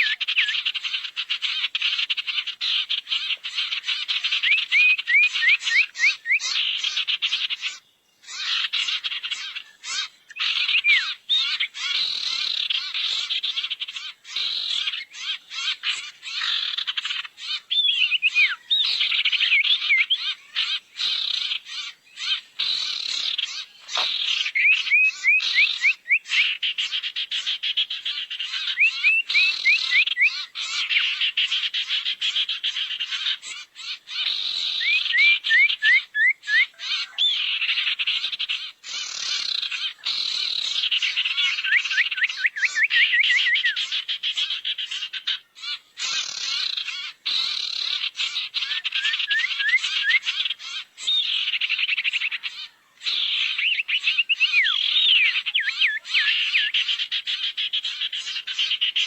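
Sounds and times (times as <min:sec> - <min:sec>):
bird chattering: 0:00.0 - 0:59.0.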